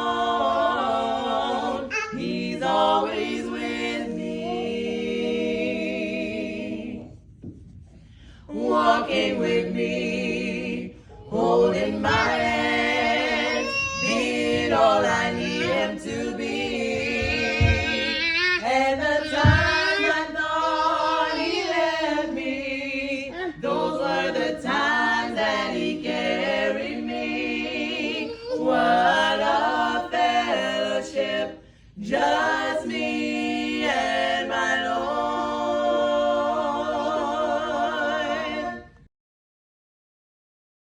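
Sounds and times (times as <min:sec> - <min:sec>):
vocal ensemble singing a cappella: 0:00.0 - 0:39.1.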